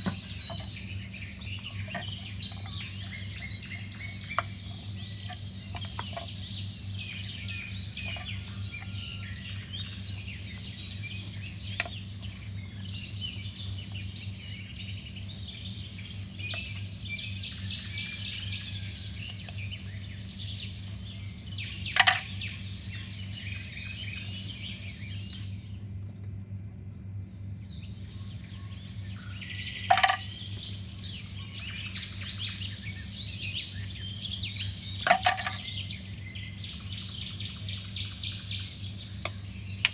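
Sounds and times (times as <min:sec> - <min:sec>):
small birds chirping: 0:00.0 - 0:25.9, 0:27.4 - 0:39.9
low steady hum: 0:00.0 - 0:39.9.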